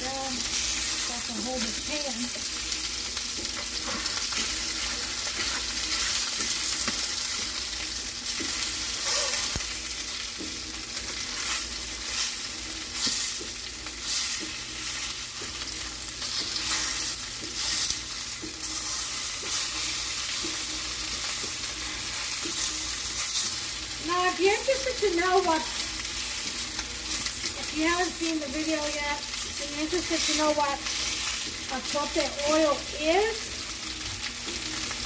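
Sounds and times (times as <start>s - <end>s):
meat sizzling in a pan: 0.0s - 35.0s.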